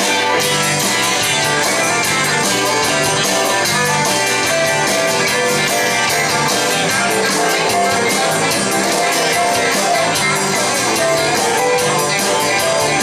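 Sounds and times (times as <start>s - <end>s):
honky-tonk band instrumental: 0.0s - 13.0s
lead guitar: 0.0s - 13.0s.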